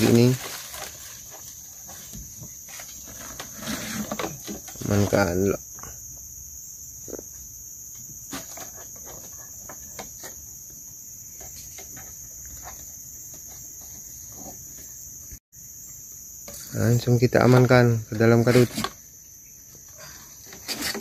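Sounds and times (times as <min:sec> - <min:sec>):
insect chorus buzzing: 0:00.0 - 0:21.0.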